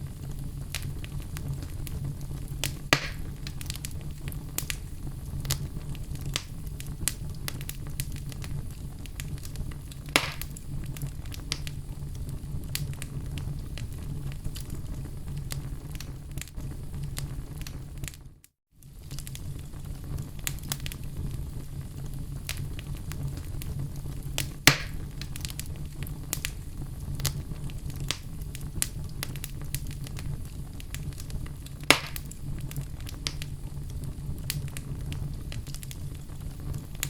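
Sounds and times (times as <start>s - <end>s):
fireplace fire crackling: 0.0s - 37.0s
low rumble of fire: 0.0s - 37.0s.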